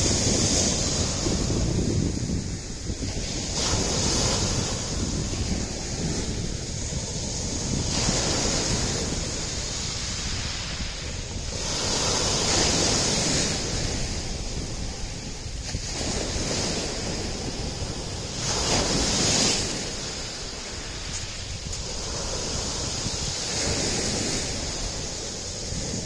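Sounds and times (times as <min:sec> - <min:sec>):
waves washing up pebble beach: 0:00.0 - 0:26.0.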